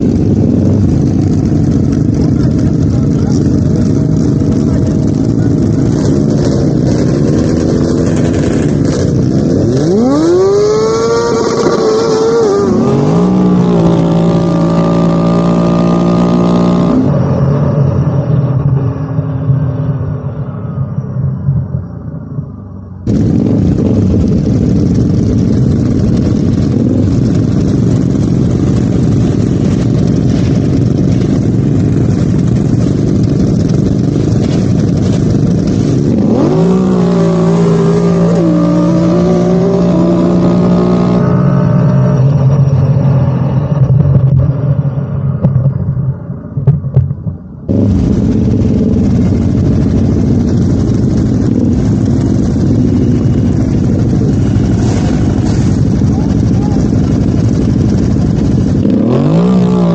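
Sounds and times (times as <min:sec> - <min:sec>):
atv engine revving: 0:00.0 - 0:18.3, 0:23.1 - 0:44.7, 0:47.7 - 0:59.9.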